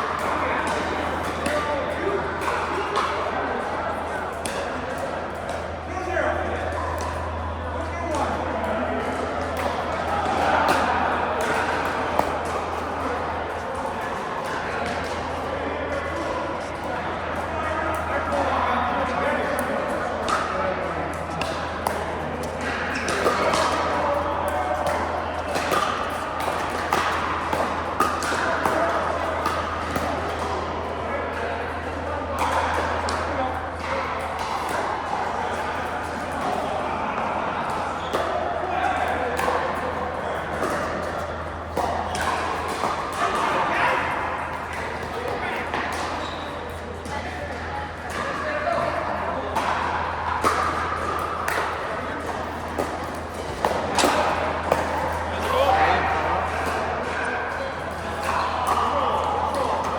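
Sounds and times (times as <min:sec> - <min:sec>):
murmur of voices: 0:00.0 - 0:59.9.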